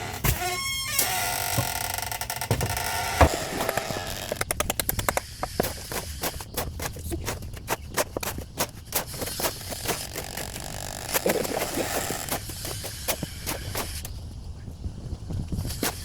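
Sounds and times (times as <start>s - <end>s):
hand tools tapping and scraping concrete: 0.0s - 14.2s.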